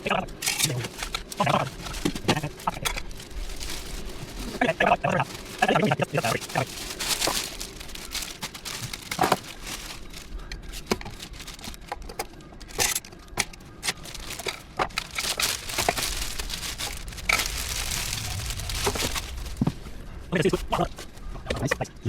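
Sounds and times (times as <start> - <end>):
crinkling and rustling: 0.0 - 22.0.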